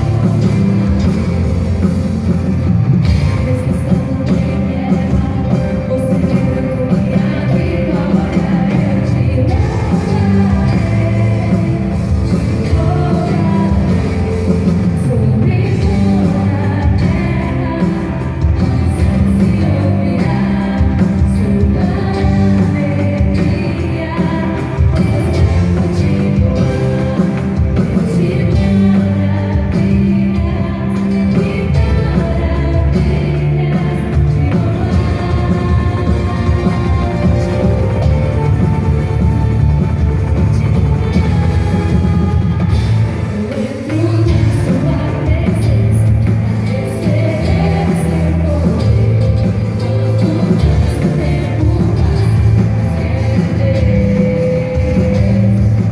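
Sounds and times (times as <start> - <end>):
upbeat rock praise song: 0.0 - 55.9.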